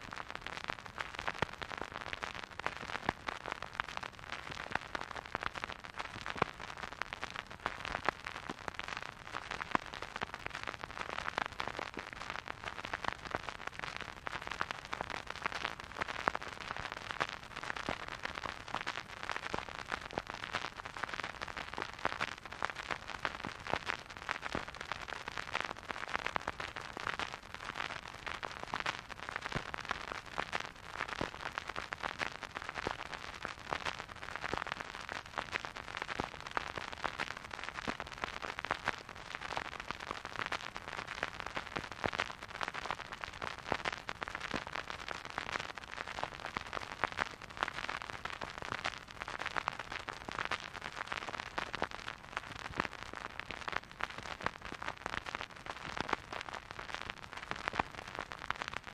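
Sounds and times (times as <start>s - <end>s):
vinyl record crackle and hiss: 0.0s - 58.9s.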